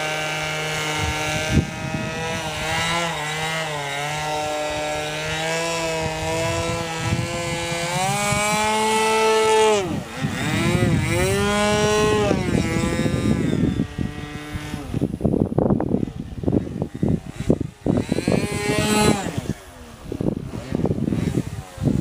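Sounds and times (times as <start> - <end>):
model airplane engine: 0.0 - 22.0
wind rumble on microphone: 0.0 - 22.0.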